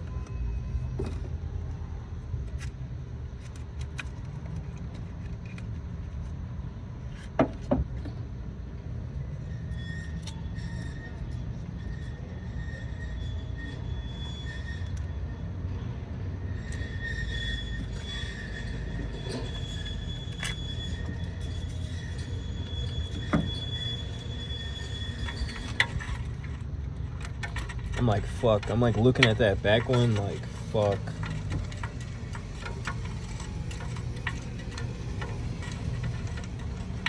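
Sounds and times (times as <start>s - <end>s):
faint high squealing tones: 0.0s - 2.7s, 7.0s - 37.0s.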